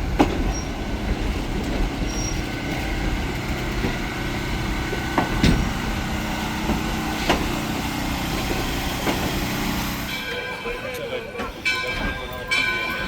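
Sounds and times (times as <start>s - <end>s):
train rumbling along track: 0.0s - 13.0s
wheels clacking: 0.0s - 13.0s.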